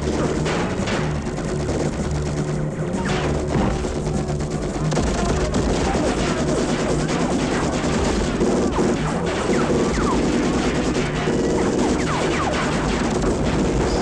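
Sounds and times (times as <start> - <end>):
dramatic music: 0.0 - 14.0
gunfire bursts: 0.0 - 14.0.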